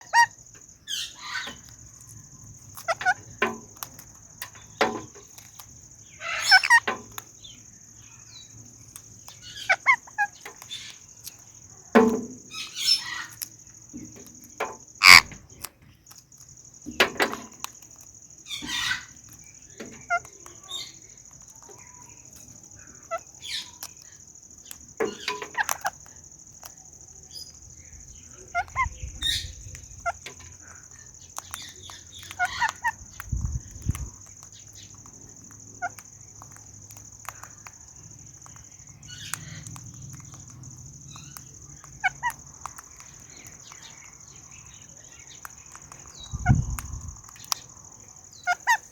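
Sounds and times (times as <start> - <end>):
parrots crunching fruit: 0.0 - 48.9.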